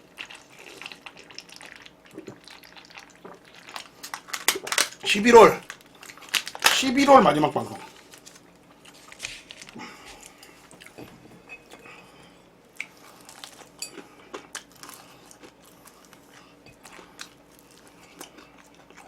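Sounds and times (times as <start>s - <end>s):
person chewing and crunching: 0.0s - 6.8s, 7.8s - 11.0s, 12.7s - 19.0s.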